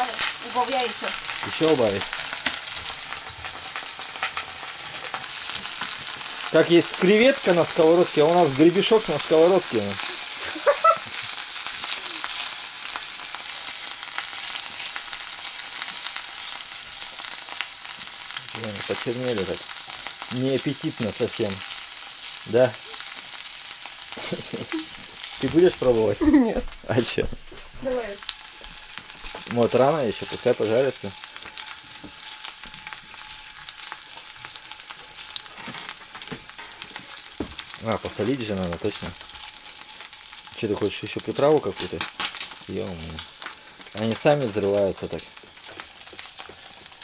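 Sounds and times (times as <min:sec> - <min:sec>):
oil sizzling in a pan: 0:00.0 - 0:47.0.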